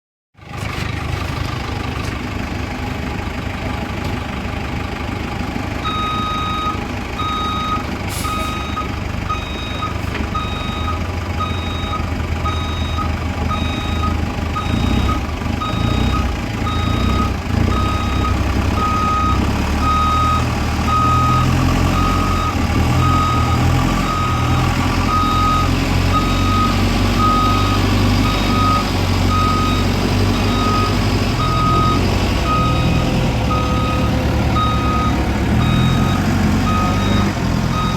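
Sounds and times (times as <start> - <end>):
heavy diesel engine straining: 0.4 - 37.9
reverse alarm beeping: 5.8 - 37.9.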